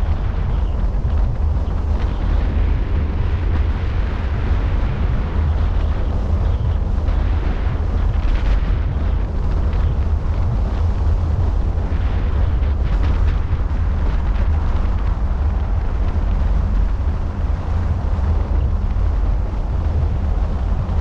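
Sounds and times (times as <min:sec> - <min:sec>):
road noise: 0:00.0 - 0:21.0
wind buffeting microphone: 0:00.0 - 0:21.0.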